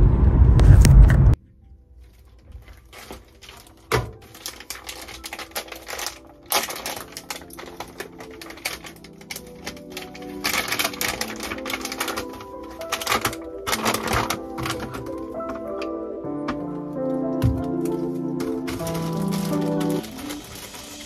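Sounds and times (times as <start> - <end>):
soft background music: 1.3 - 21.0
plastic bag crinkling: 1.9 - 21.0.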